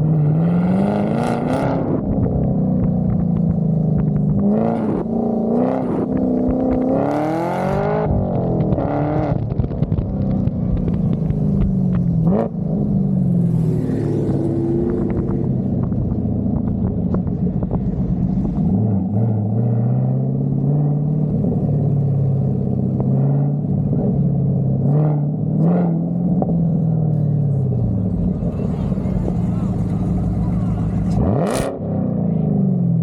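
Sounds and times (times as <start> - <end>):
vehicle engine deep rumble: 0.0 - 33.0.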